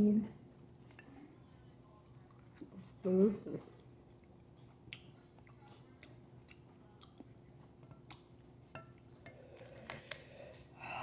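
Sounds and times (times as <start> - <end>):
quiet chewing: 0.7 - 10.7.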